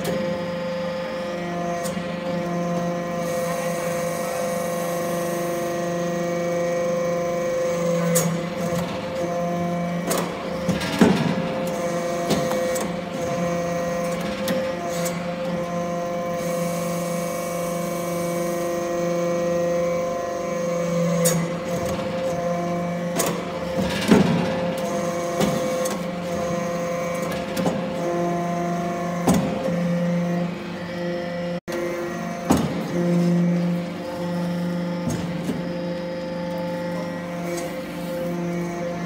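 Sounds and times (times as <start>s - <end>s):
hydraulic power unit hum: 0.0s - 39.0s.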